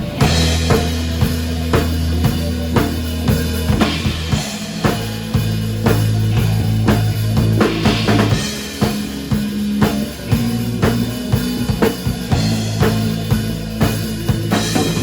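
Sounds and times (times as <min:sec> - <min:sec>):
drum kit beat: 0:00.0 - 0:15.0
held bass notes: 0:00.0 - 0:15.0.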